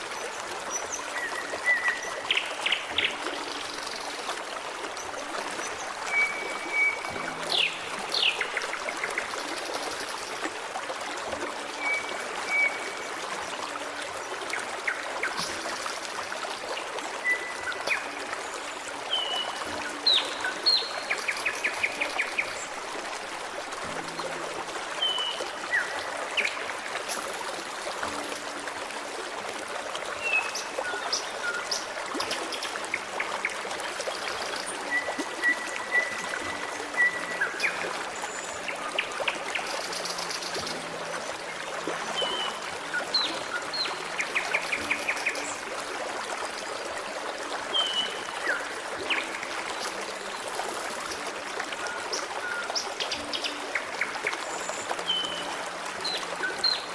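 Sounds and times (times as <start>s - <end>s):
stream babbling: 0.0s - 56.9s.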